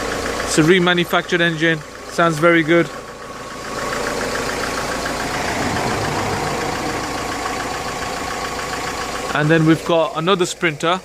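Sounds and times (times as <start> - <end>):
diesel engine idling: 0.0 - 9.6.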